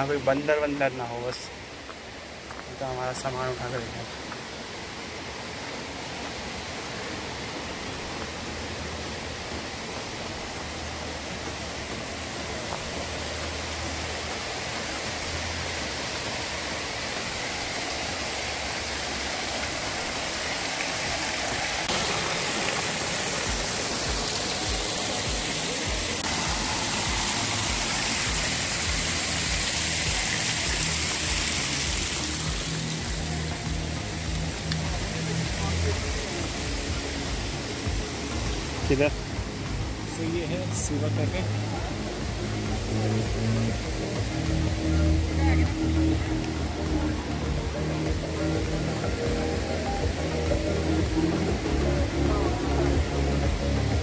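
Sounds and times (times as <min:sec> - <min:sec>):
waterfall rushing: 0:00.0 - 0:54.0
background music: 0:06.8 - 0:54.0.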